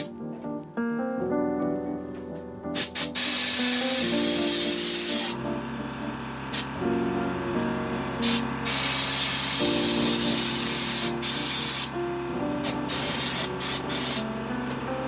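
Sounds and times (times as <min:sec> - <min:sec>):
spray gun hissing in bursts: 0:02.8 - 0:14.9.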